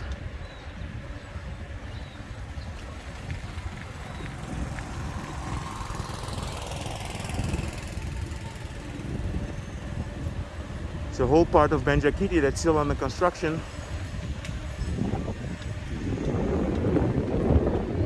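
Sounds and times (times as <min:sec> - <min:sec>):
street traffic rumble: 0:00.0 - 0:18.0
vehicle passing by: 0:02.2 - 0:18.0.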